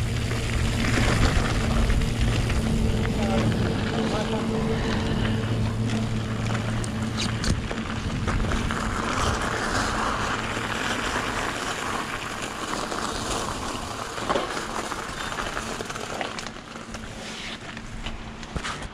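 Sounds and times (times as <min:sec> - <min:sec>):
bike clicks and rattles: 0:00.0 - 0:18.9
bike tyres rolling on wet trail: 0:00.0 - 0:18.9.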